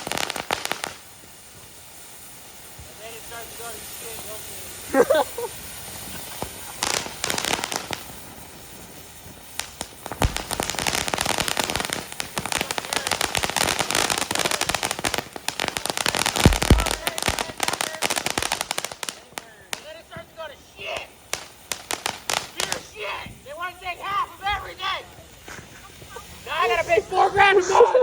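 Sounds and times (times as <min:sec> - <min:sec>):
deep firework booms: 0:00.0 - 0:23.5
fireworks crackling pops: 0:00.0 - 0:28.0.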